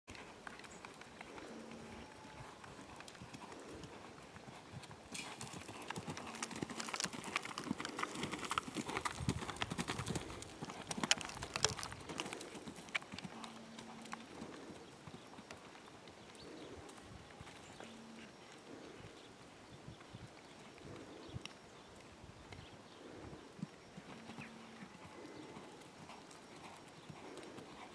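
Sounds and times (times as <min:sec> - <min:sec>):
horse hoofbeats cantering: 0:00.1 - 0:19.0, 0:23.1 - 0:27.9.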